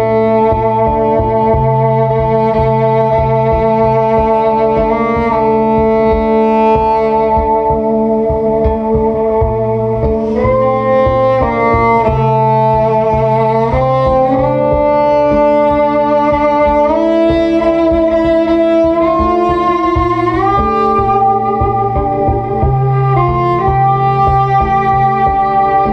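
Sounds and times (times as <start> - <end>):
bowed electric cello chords: 0.0 - 25.9.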